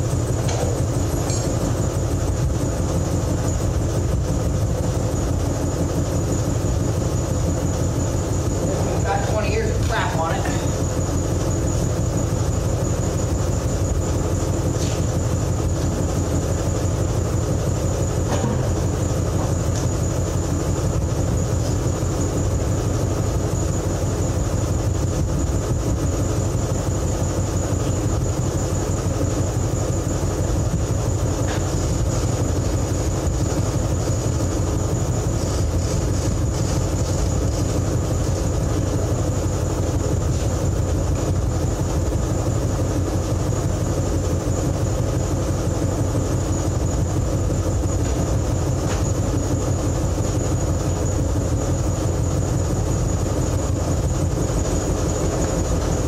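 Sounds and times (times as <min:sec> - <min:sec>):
engine running with low pulsing: 0:00.0 - 0:56.0
thin high whine: 0:00.0 - 0:56.0.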